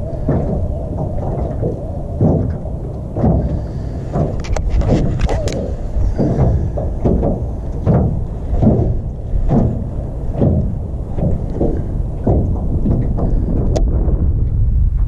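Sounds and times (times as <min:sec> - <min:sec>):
waves slapping metal boat hull: 0:00.0 - 0:15.0
wind buffeting microphone: 0:00.0 - 0:15.0.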